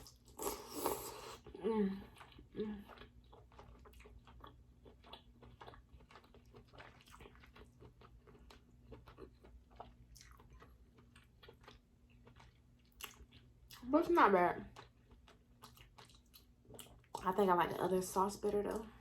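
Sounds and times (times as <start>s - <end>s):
chewing and biting: 0.0s - 13.9s, 14.6s - 17.2s.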